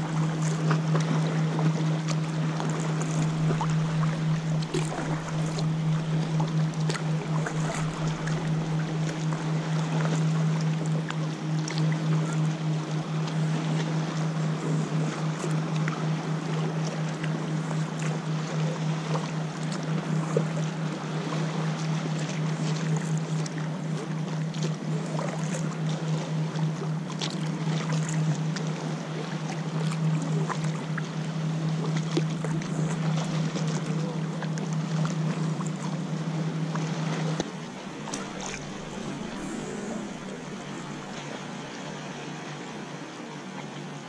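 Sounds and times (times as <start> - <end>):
steady low hum: 0.0 - 44.0
water lapping and splashing: 0.0 - 44.0.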